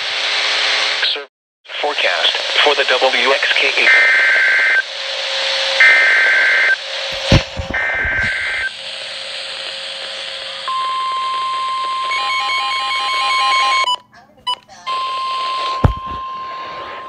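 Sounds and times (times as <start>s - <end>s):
radio static: 0.6s - 13.9s, 14.6s - 17.0s
steady warning alarm tone: 2.6s - 17.0s.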